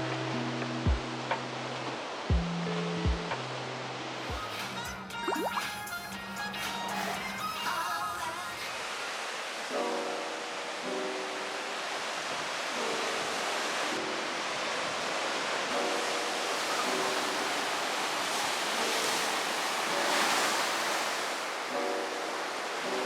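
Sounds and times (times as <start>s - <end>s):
sea waves washing on shore: 0.0s - 6.0s, 6.6s - 23.0s.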